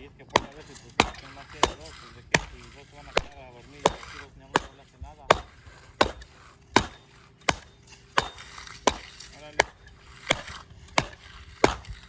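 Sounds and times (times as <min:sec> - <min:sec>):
tamper striking concrete: 0:00.0 - 0:12.0.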